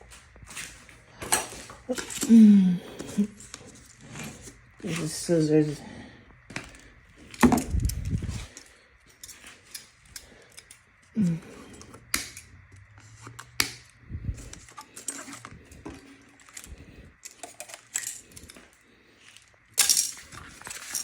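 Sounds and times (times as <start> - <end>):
parts clicking and clinking: 0.4 - 5.1, 6.5 - 21.0.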